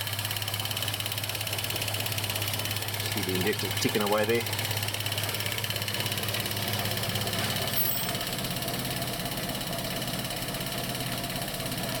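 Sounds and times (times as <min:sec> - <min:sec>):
car engine idling: 0:00.0 - 0:12.0
fuel injector ticking: 0:00.0 - 0:12.0.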